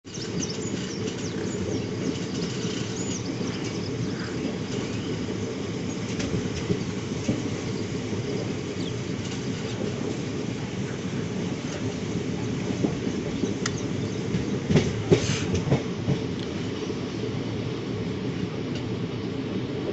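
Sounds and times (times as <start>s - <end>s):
train rumbling past: 0.1s - 19.9s.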